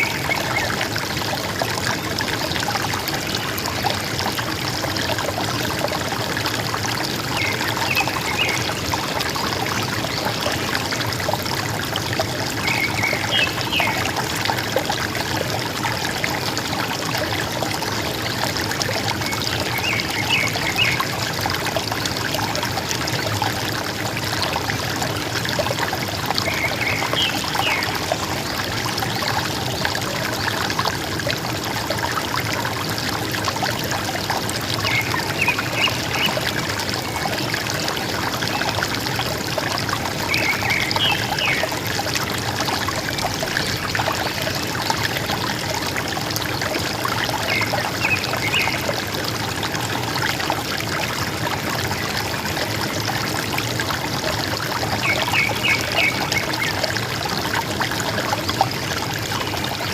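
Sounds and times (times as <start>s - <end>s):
river water gurgling: 0.0s - 59.9s.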